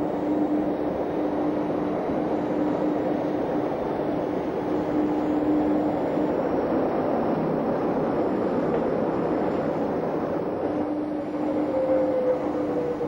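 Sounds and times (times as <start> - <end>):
electric train rumbling in tunnel: 0.0 - 13.0
faint steady hum: 0.0 - 13.0.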